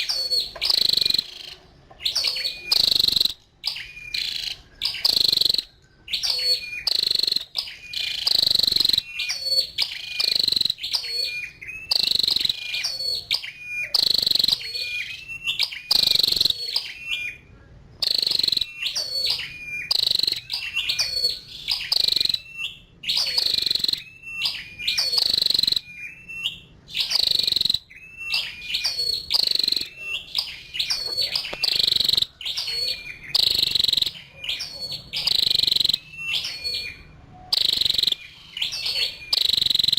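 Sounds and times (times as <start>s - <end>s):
bird high chipping calls: 0.0s - 39.9s.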